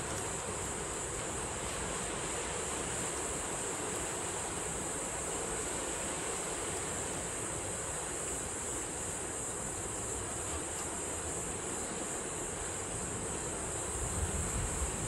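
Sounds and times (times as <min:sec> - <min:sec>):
high-pitched hiss: 0:00.0 - 0:15.0
wind: 0:00.0 - 0:15.0.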